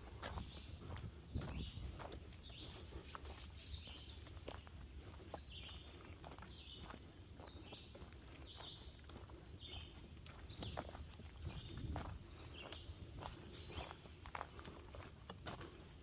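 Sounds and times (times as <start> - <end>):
footsteps crunching on a trail: 0.0 - 16.0.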